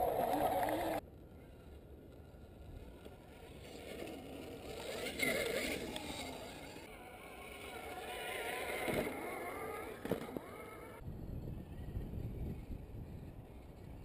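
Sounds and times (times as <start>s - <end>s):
electric motor whining: 2.4s - 14.0s.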